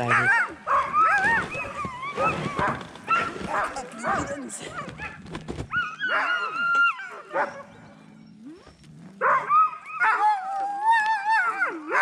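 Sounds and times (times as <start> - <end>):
dogs whining: 0.0 - 12.0.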